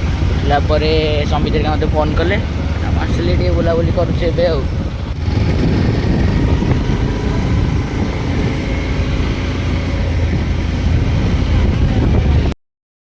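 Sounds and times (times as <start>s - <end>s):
vehicle engine and road noise: 0.0s - 12.6s.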